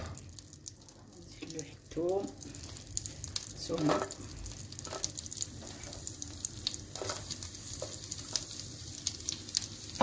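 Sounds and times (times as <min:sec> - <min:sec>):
crackles and pops: 0:00.0 - 0:10.0
garlic sizzling in butter: 0:00.0 - 0:10.0.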